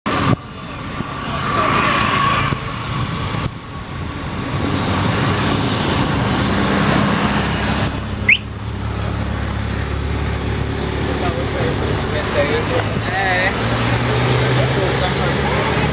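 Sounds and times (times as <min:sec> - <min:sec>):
road rumble: 0:00.0 - 0:15.9
traffic: 0:00.1 - 0:15.9.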